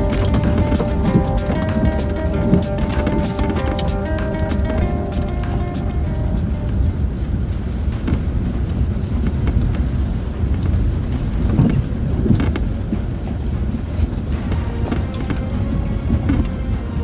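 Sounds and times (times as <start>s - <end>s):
engine and running gear rumble: 0.0s - 17.0s
knocks and rattles: 0.0s - 17.0s.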